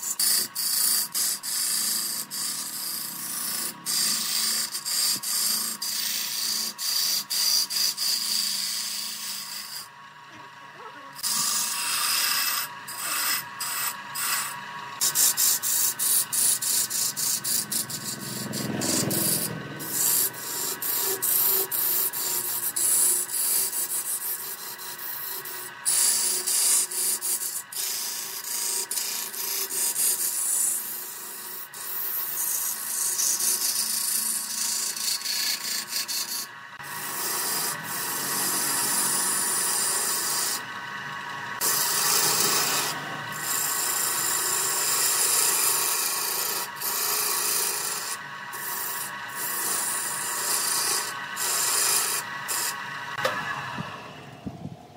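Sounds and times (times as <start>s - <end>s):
lathe tool scraping wood: 0.0s - 54.8s
lathe motor whine: 0.0s - 54.9s.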